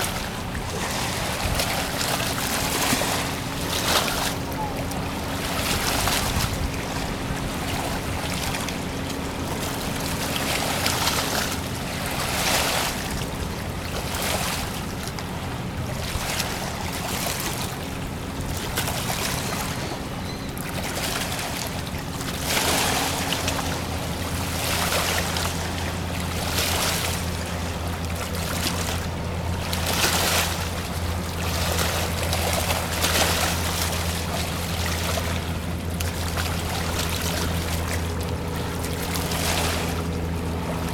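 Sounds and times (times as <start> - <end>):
ship machinery humming: 0.0 - 40.9
water rushing and splashing: 0.0 - 40.9.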